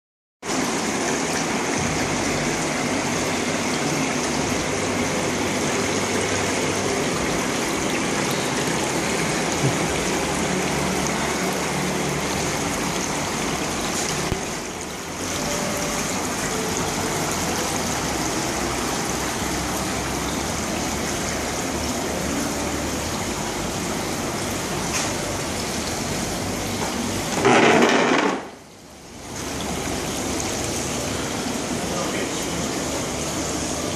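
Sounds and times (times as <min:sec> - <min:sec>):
low pump hum: 0:00.4 - 0:27.4, 0:28.6 - 0:33.9
water cascade pouring: 0:00.4 - 0:33.9
water jets churning and splashing: 0:00.4 - 0:33.9.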